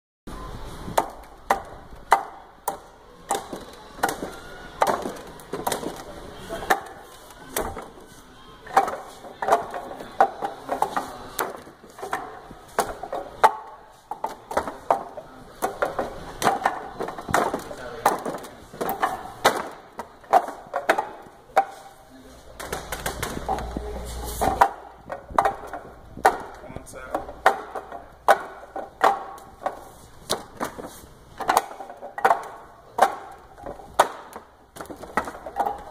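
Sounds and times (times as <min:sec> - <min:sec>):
sharp wooden knocks: 0:01.0 - 0:08.0, 0:08.7 - 0:21.9, 0:24.4 - 0:35.9.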